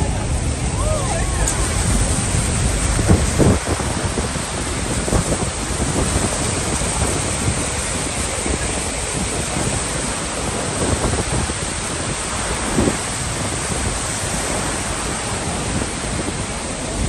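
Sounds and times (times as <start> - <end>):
waterfall roar: 0.0 - 17.0
wind buffeting microphone: 0.0 - 17.0.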